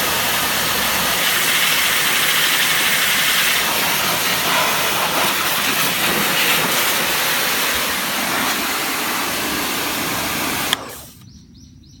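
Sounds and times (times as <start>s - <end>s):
pressure washer spraying tyre: 0.0s - 11.2s.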